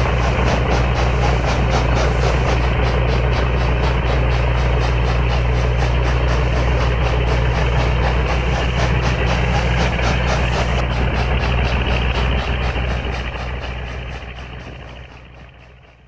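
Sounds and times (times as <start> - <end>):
steam engine running: 0.0 - 16.0.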